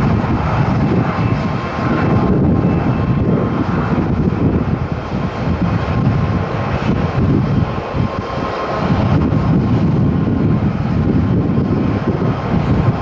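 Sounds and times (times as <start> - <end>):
faint engine whine: 0.0 - 13.0
jet engine rush: 0.0 - 13.0
wind buffeting microphone: 0.0 - 13.0.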